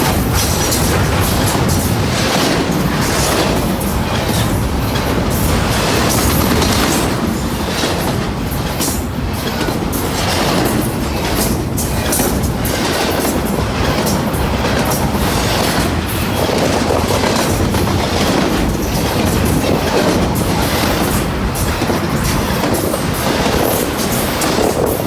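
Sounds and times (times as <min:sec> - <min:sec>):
rail clacks: 0:00.0 - 0:25.0
train wheels rumbling on rails: 0:00.0 - 0:25.0.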